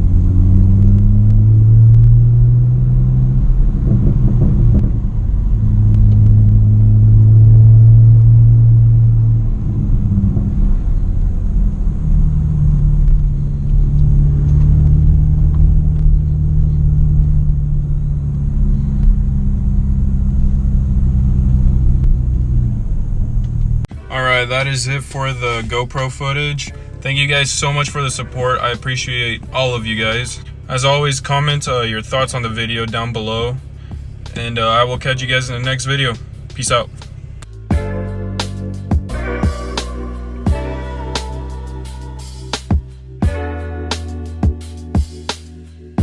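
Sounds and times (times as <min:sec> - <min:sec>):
car exhaust drone: 0:00.0 - 0:46.0.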